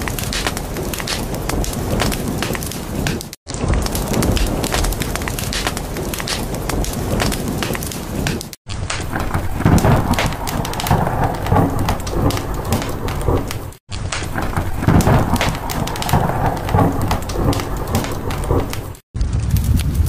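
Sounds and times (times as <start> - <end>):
rain: 0.0 - 20.0
thunder rumble: 0.0 - 20.0
wood fire crackling: 0.0 - 20.0.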